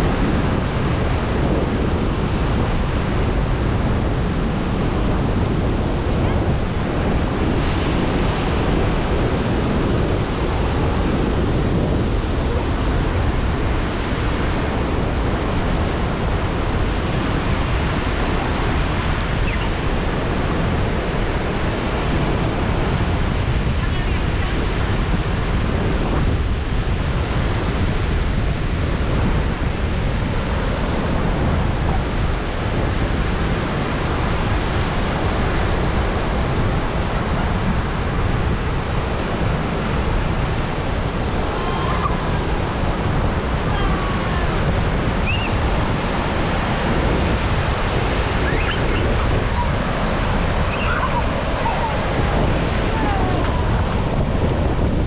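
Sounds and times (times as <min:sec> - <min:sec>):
ocean surf washing onto beach: 0:00.0 - 0:55.0
wind rumbling on microphone: 0:00.0 - 0:55.0.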